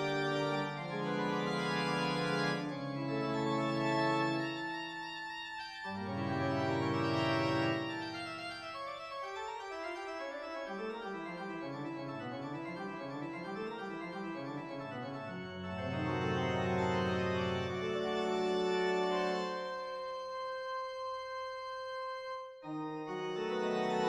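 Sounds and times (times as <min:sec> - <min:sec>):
organ music: 0:00.0 - 0:24.0.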